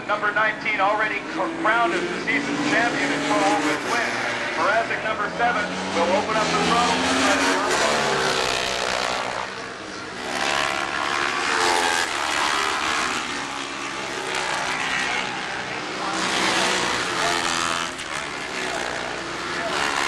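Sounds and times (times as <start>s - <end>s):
racing motorcycles passing by: 0.0s - 20.0s.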